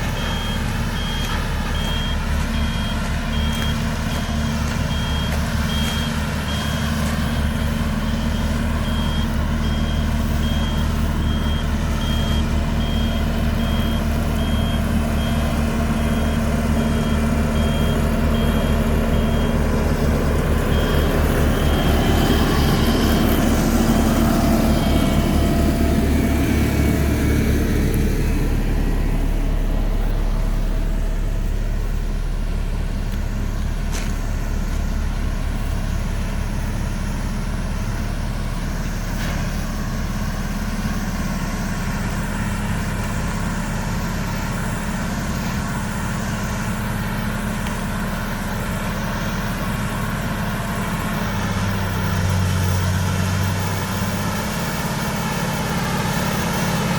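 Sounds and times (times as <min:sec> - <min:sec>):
heavy vehicle engine running: 0:00.0 - 0:56.9.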